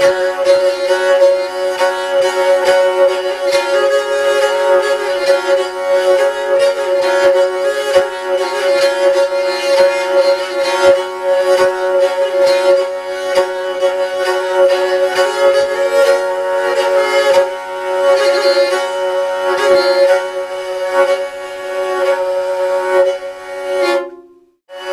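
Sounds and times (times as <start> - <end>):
bowed lyre melody over drone: 0.0 - 24.9.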